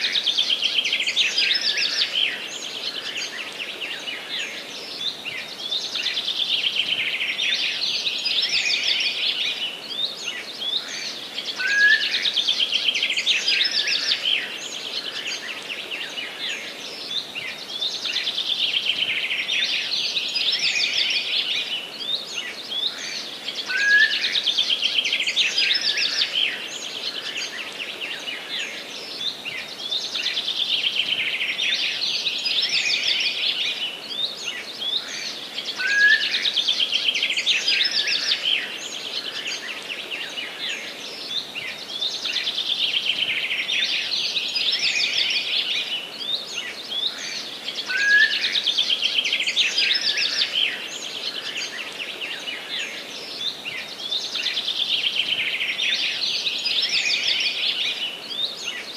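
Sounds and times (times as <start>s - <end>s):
background hiss: 0.0s - 58.9s
songbirds trilling: 0.0s - 58.9s.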